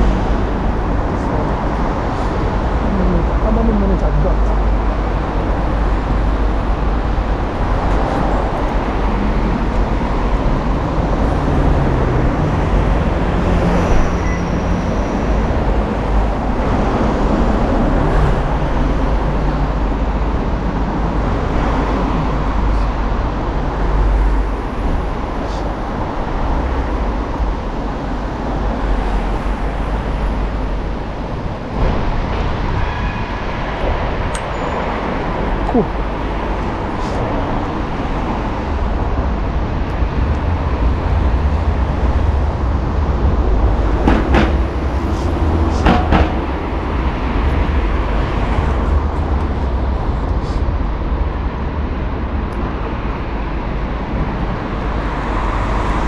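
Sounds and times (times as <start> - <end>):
traffic noise with low rumble: 0.0 - 56.0.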